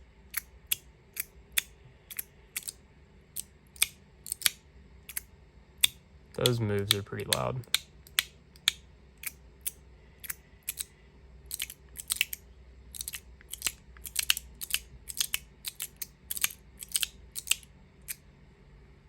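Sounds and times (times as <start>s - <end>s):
magnetic fidget clicking: 0.3s - 2.8s, 3.4s - 10.9s, 11.5s - 12.4s, 13.0s - 18.2s.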